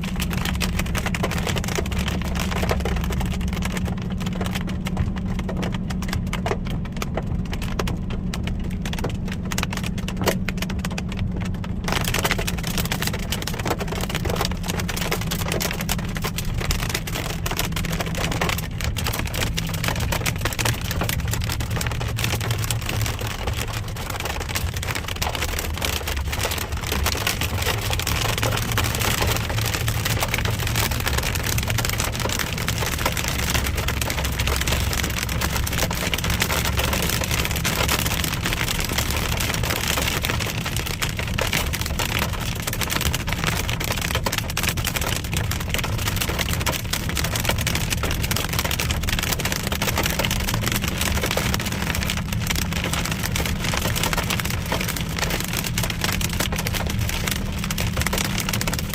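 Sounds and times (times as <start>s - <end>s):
hail pelting a car: 0.0s - 58.9s
road and engine rumble: 0.0s - 58.9s.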